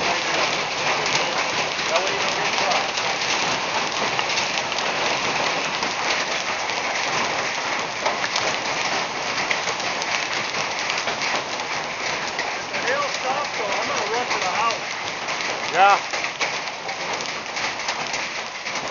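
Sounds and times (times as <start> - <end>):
heavy rain and hail falling: 0.0 - 18.9.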